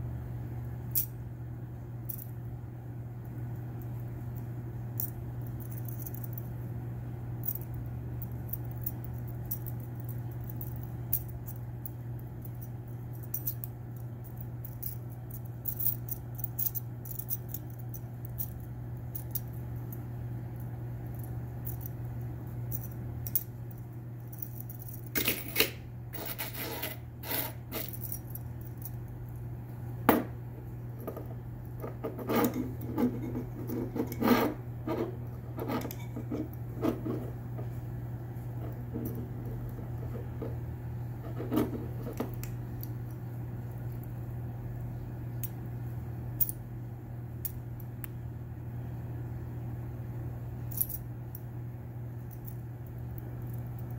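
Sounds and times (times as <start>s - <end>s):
low hum: 0.0s - 53.9s.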